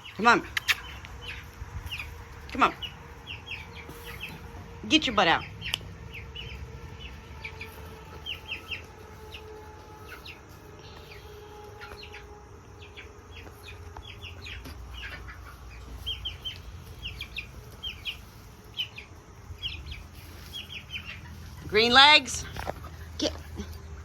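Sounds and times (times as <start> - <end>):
chickens clucking: 0.0 - 24.0
chicks peeping: 0.0 - 24.0.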